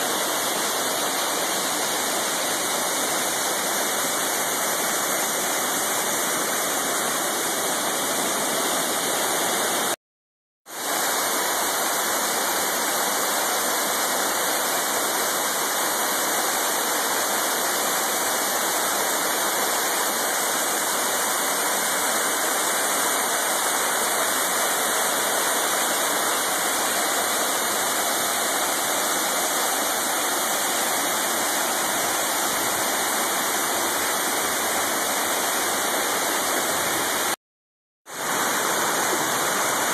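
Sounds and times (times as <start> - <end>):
waterfall rushing: 0.0 - 10.0, 10.8 - 37.4, 38.1 - 39.9.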